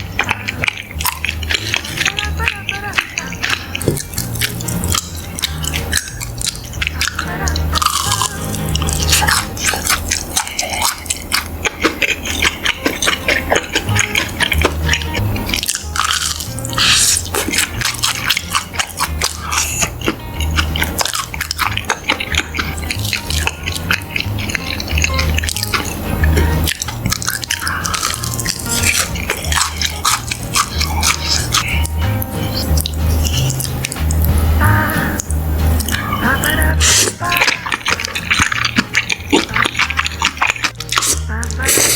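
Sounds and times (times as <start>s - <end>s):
crisp wet chewing clicks: 0.0s - 34.4s, 35.2s - 41.9s
background music with pulsing bass: 0.0s - 41.9s.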